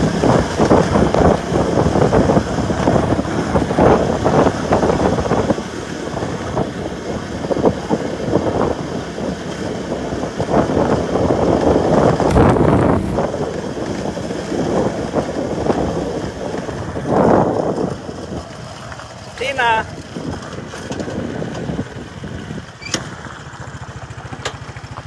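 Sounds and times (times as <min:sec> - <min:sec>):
wind buffeting microphone: 0:00.0 - 0:22.8.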